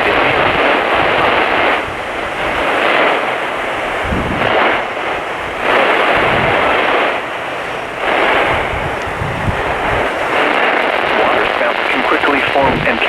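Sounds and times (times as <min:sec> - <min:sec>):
harsh radio static hiss: 0:00.0 - 0:13.0.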